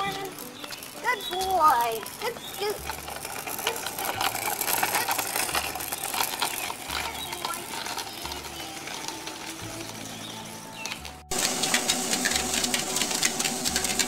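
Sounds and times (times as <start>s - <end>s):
scooter wheels rattling over asphalt: 0.0s - 14.0s.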